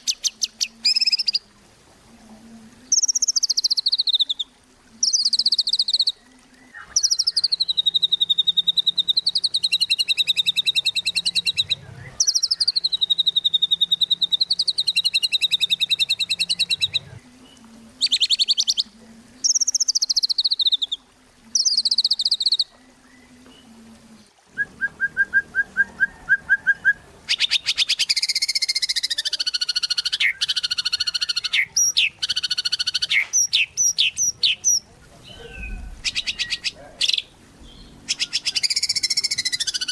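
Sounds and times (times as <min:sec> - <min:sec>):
songbird singing trilled phrases: 0:00.0 - 0:01.5, 0:02.9 - 0:23.2, 0:26.8 - 0:39.9.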